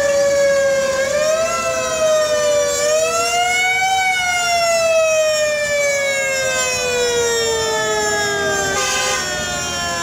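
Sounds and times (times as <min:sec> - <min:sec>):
high fire truck siren wailing: 0:00.0 - 0:10.0
lower siren falling: 0:00.0 - 0:10.0.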